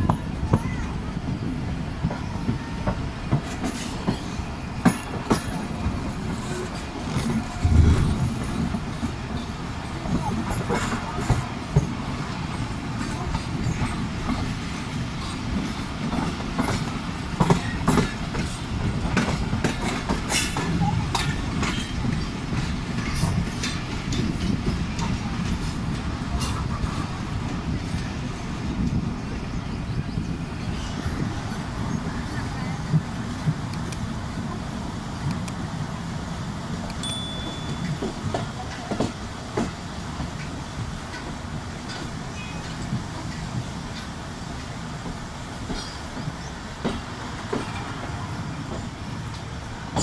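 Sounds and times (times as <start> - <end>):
train coach rumble: 0.0 - 50.0.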